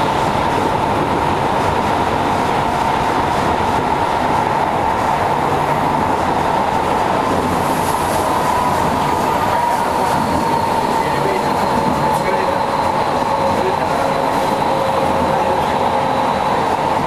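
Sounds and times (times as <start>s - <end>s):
train high hum: 0.0s - 17.0s
wheels roaring on rail: 0.0s - 17.0s.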